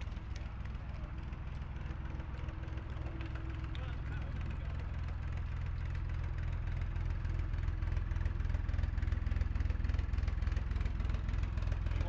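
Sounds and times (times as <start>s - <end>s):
diesel boat engine running: 0.0s - 12.0s.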